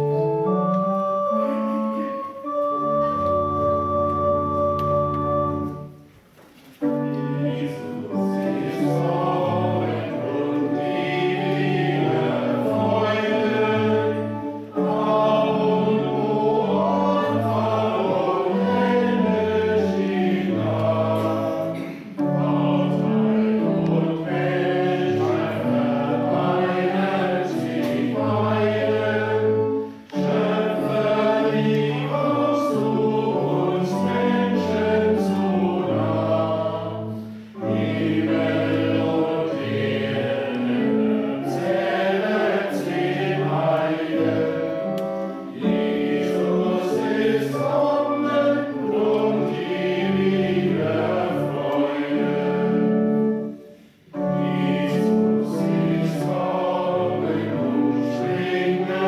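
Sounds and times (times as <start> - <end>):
church organ: 0.0 - 59.0
congregation singing a hymn: 0.0 - 59.0.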